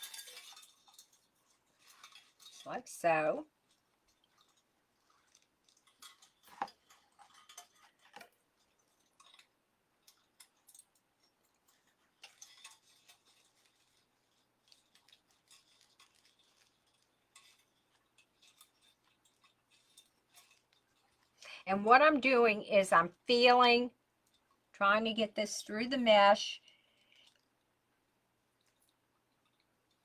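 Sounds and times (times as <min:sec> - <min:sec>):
mesh crinkling and rustling: 0:00.0 - 0:30.0.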